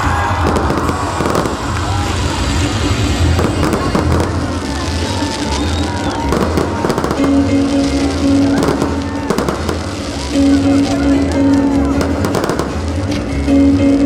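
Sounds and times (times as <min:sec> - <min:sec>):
fireworks pops and crackles: 0:00.0 - 0:13.4
fireworks rumbling launches and bursts: 0:00.0 - 0:14.0.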